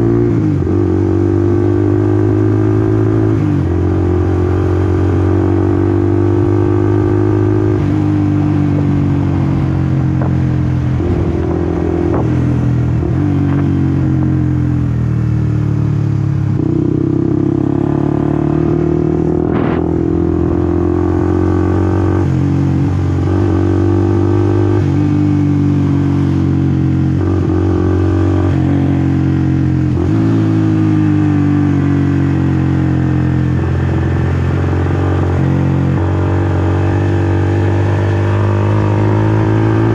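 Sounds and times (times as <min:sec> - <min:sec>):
motorcycle engine changing gears: 0:00.0 - 0:39.9.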